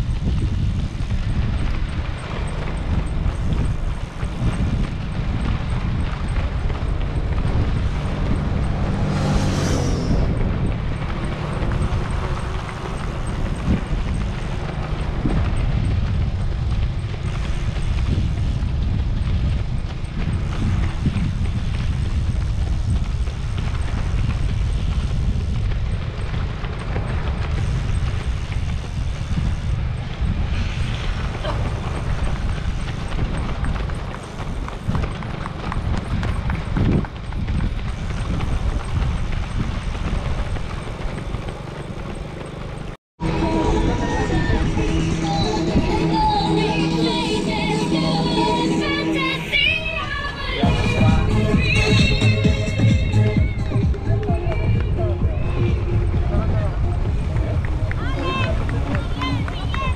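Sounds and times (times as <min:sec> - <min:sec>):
low rumble: 0:00.0 - 0:42.2, 0:42.8 - 0:59.9
runners' footsteps on road: 0:00.0 - 0:44.6, 0:45.4 - 0:59.9.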